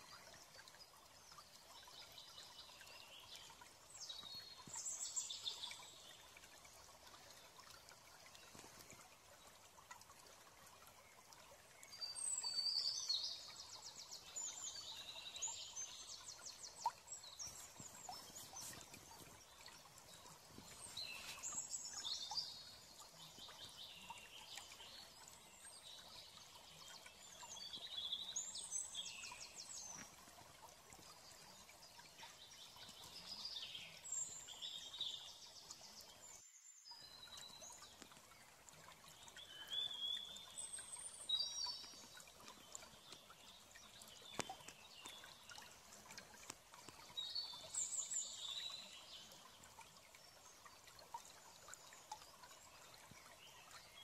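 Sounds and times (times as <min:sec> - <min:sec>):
low steady hiss: 0:00.0 - 0:54.0.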